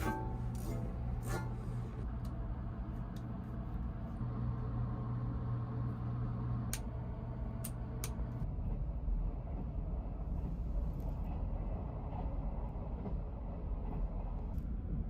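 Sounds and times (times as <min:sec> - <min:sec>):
train carriage hum and rumble: 0:00.0 - 0:15.0.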